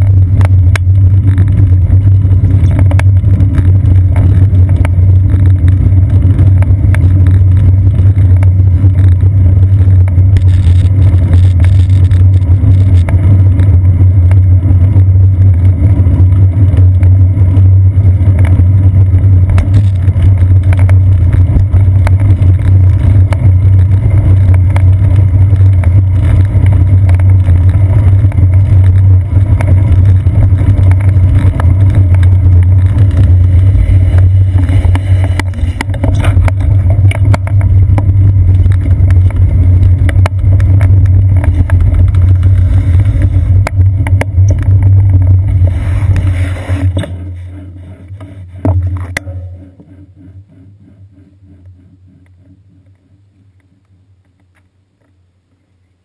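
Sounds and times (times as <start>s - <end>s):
wind and road rumble: 0.0s - 56.0s.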